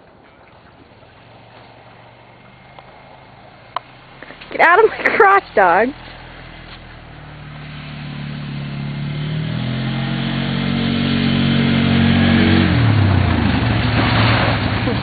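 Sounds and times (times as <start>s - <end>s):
atv engine approaching: 0.0s - 15.0s.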